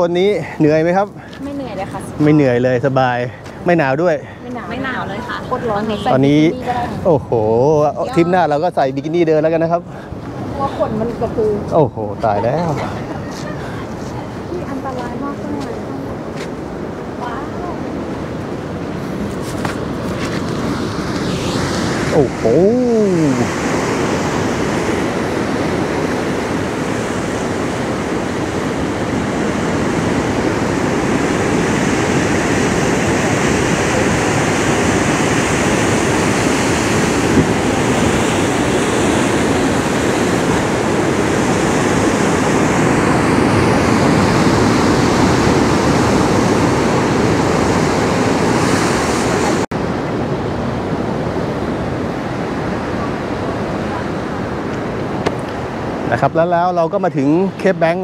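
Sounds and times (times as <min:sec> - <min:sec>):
wind buffeting microphone: 0:00.0 - 0:56.3
ocean surf rushing: 0:00.0 - 0:58.0.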